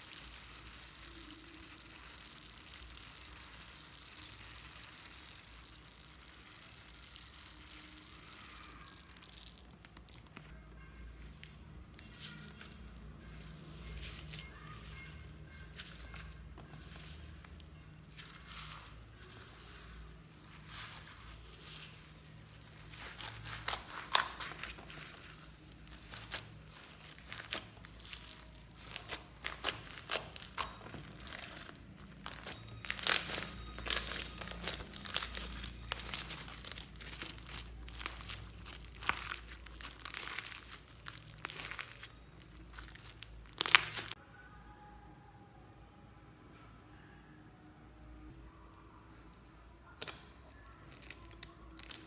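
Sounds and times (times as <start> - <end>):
slime crackling and popping: 0.0 - 44.2, 50.0 - 52.0.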